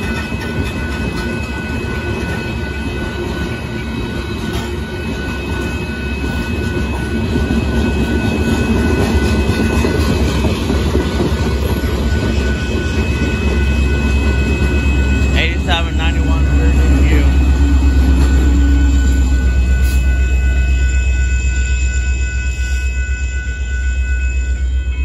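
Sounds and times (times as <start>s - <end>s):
freight train wheels rumbling: 0.0s - 25.0s
high ringing tones: 0.0s - 25.0s.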